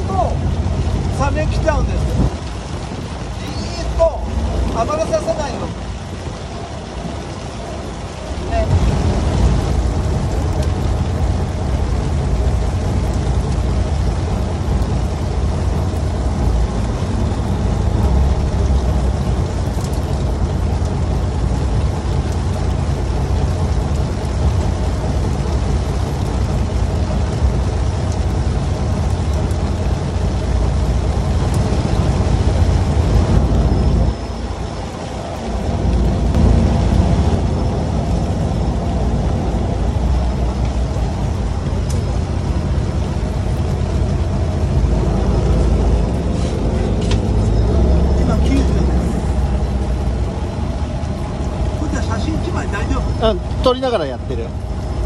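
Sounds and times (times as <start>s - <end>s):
boat engine humming: 0.0s - 55.0s
rain pattering on umbrella: 0.0s - 55.0s.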